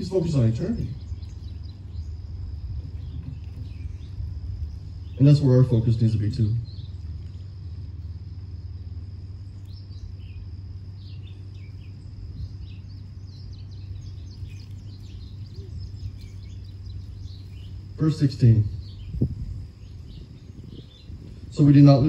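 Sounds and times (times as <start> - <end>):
bird chirps: 0.0 - 22.0
high insect tone: 0.0 - 22.0
steady low hum: 0.0 - 22.0.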